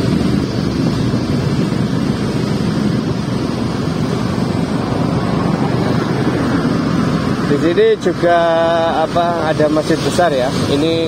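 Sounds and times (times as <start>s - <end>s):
scooter engine and tyre noise: 0.0s - 11.0s
wind on microphone: 0.0s - 11.0s.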